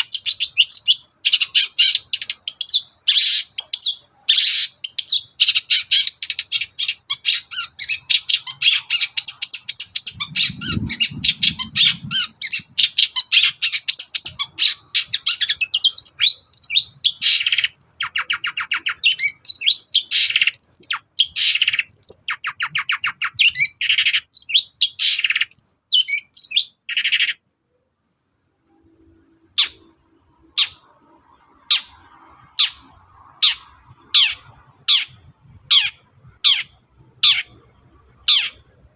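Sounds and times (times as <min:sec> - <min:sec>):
bird chattering and calling: 0:00.0 - 0:27.4, 0:29.5 - 0:38.9.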